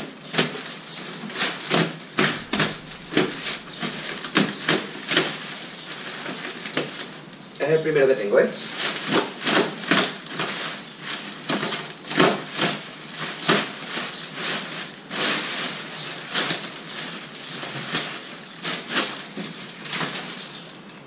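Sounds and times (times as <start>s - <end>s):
plastic wrap crinkling: 0.4s - 7.2s, 8.6s - 20.8s.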